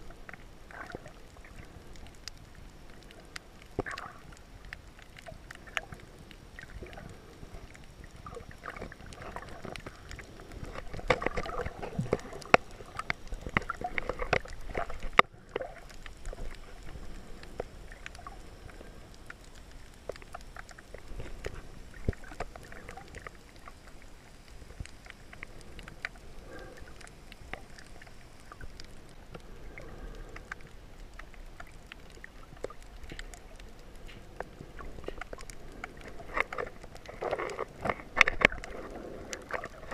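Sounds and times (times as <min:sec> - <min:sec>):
sharp underwater clicks and crackles: 0:00.0 - 0:39.9
underwater watery wash: 0:00.0 - 0:39.9.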